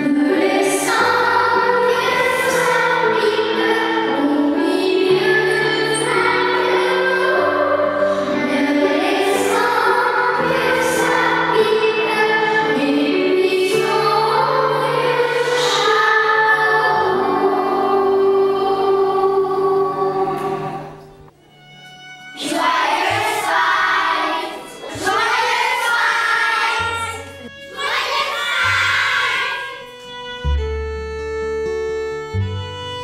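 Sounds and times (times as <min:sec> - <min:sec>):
children's choir singing: 0:00.0 - 0:21.3, 0:22.2 - 0:29.8.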